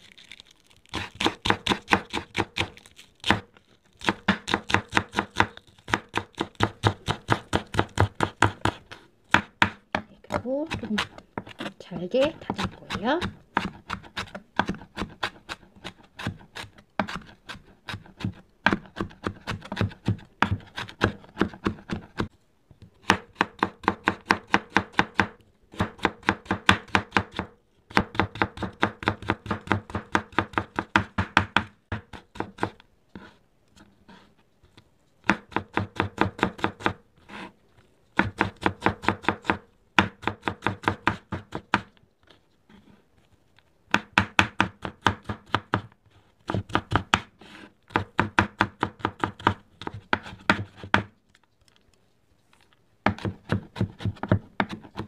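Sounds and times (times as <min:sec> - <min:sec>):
knife chopping on wooden board: 0:01.0 - 0:22.3, 0:23.0 - 0:33.3, 0:35.2 - 0:37.0, 0:38.2 - 0:41.9, 0:43.9 - 0:45.9, 0:46.5 - 0:47.3, 0:47.9 - 0:51.1, 0:53.0 - 0:55.0.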